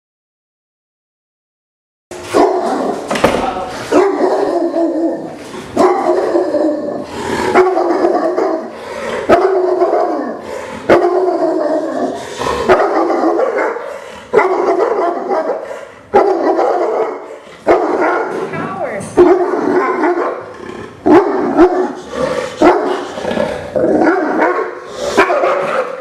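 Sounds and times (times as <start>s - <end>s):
dog barking deeply: 3.9s - 18.5s, 19.2s - 26.0s.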